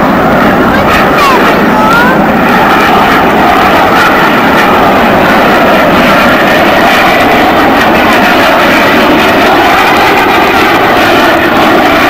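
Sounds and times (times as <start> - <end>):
jet flying past: 0.0 - 12.0.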